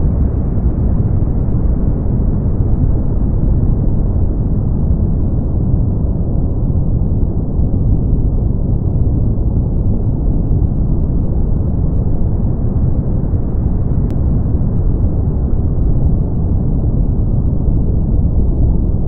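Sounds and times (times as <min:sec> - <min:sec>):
brown noise: 0:00.0 - 0:19.0.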